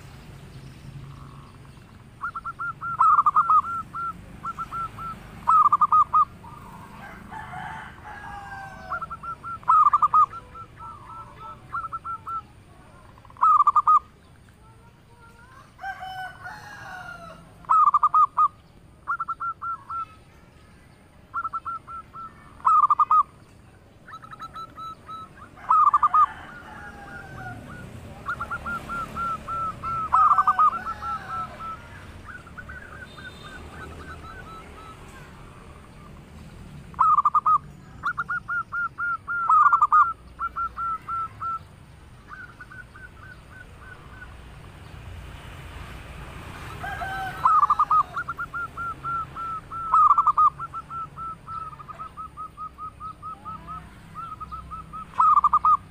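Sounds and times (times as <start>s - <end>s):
other birds calling: 0.0s - 55.9s
dove cooing: 1.0s - 20.3s, 21.3s - 36.2s, 36.9s - 44.7s, 46.5s - 55.9s.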